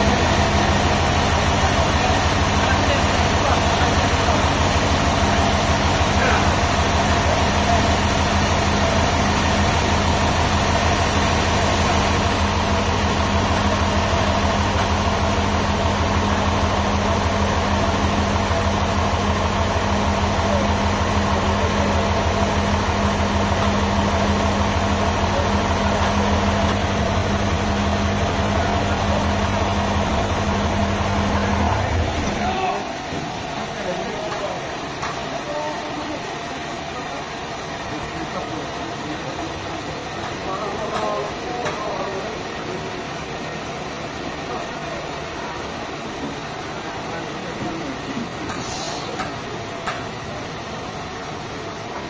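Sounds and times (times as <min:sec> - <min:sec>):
large engine humming: 0:00.0 - 0:52.0.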